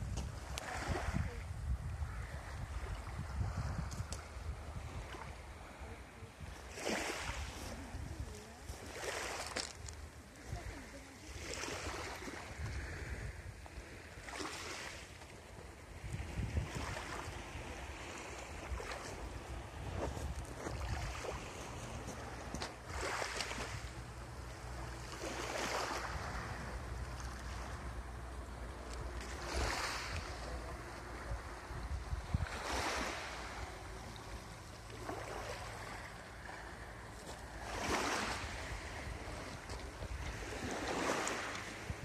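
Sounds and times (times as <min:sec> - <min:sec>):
waves washing onto beach: 0:00.0 - 0:42.0
wind on microphone: 0:00.0 - 0:42.0.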